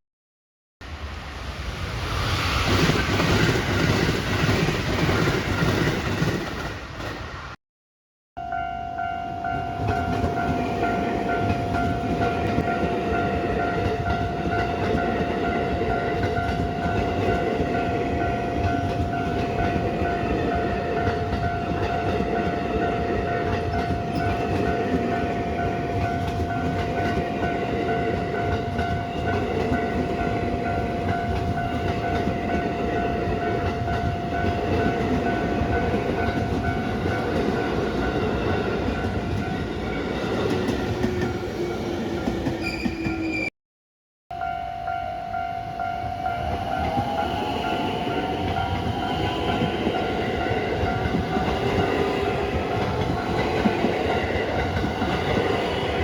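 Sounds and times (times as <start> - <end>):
train wheels rumbling on rails: 0.8 - 7.6, 9.4 - 43.4, 46.0 - 56.0.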